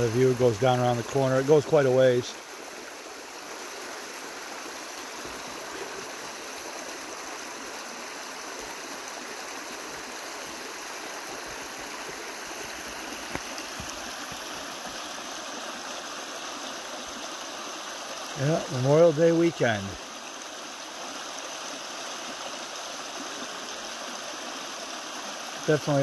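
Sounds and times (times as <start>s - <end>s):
brook running over rocks: 0.0s - 26.0s.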